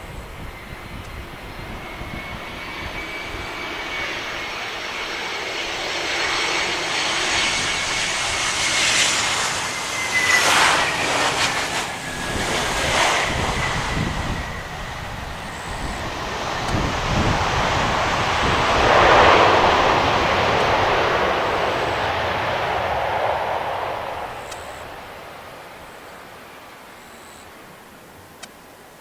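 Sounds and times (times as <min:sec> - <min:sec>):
jet engines whining: 0:00.0 - 0:27.7
high fan tone: 0:00.0 - 0:28.4.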